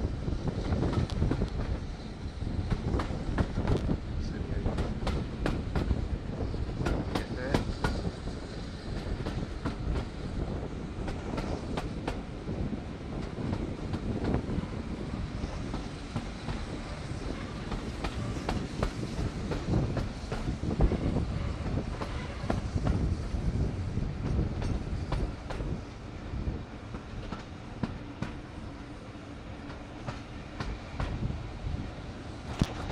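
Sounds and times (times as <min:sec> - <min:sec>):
train carriage rumble: 0:00.0 - 0:32.9.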